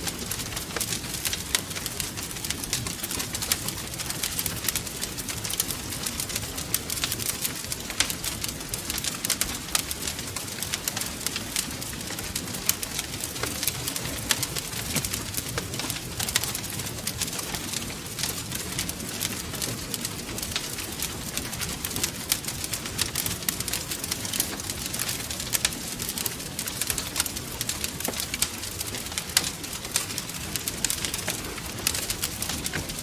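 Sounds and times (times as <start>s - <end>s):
low rumble of burning: 0.0s - 33.0s
wood fire crackling: 0.0s - 33.0s.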